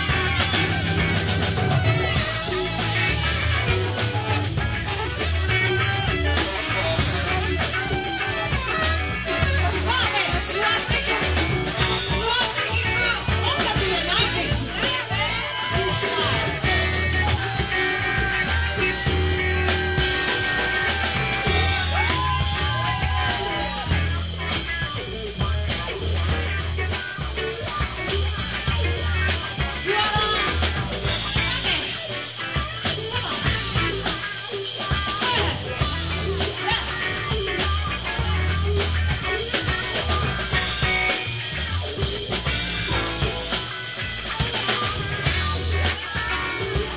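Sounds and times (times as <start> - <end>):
drum kit with cymbals: 0.0 - 46.9
guitars: 0.0 - 46.9
live band playing: 0.0 - 46.9
pulsing bass line: 0.0 - 46.9.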